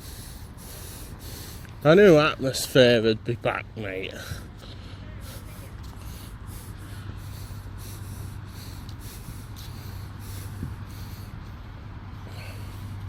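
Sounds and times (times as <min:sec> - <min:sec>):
low mechanical hum: 0:00.0 - 0:13.0
rushing background noise: 0:00.0 - 0:13.0.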